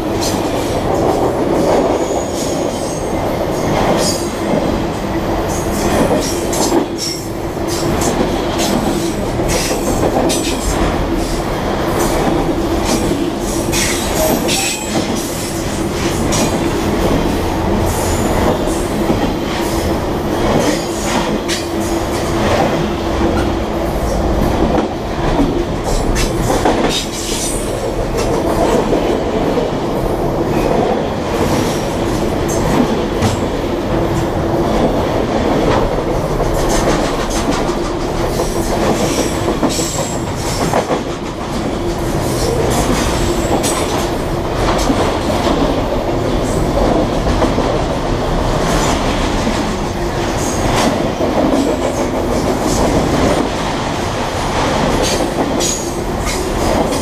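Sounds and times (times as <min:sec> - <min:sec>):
train cars clanking: 0:00.0 - 0:57.0
train wheels rumbling on rails: 0:00.0 - 0:57.0.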